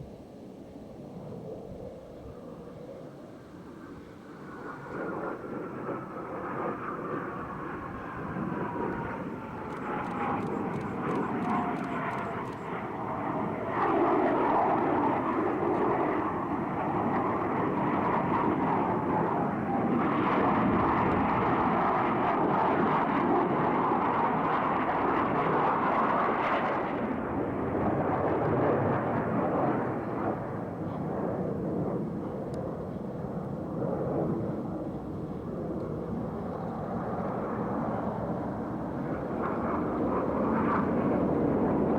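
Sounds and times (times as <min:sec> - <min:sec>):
jets flying past roaring: 0:00.0 - 0:41.9.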